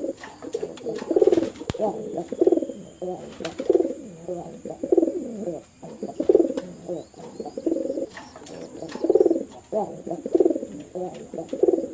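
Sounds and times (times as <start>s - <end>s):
pigeons cooing: 0.0s - 11.9s.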